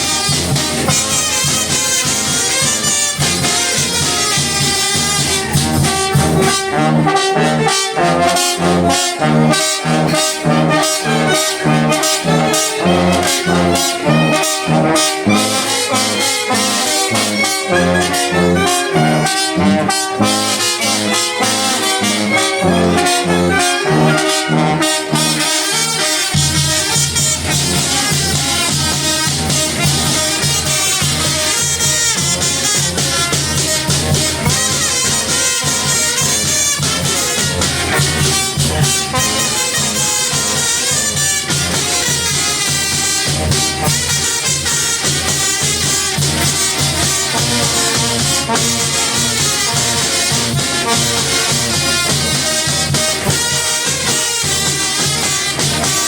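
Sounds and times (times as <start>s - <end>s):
brass band playing: 0.0s - 56.0s
brass bass line: 0.0s - 56.0s.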